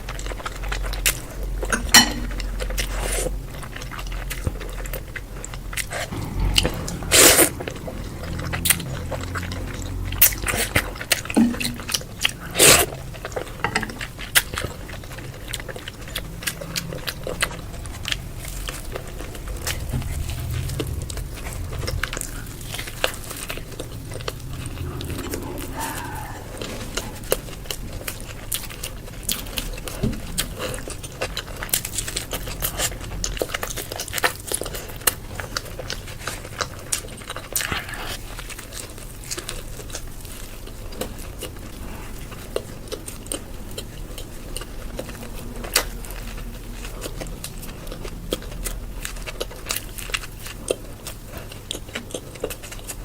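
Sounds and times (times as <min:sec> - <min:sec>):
biting and chewing crunchy food: 0:00.0 - 0:53.0.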